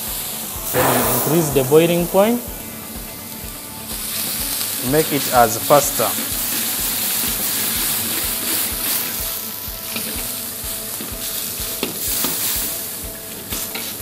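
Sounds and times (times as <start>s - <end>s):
tomatoes sizzling in a wok: 0.0s - 0.8s, 3.3s - 14.0s.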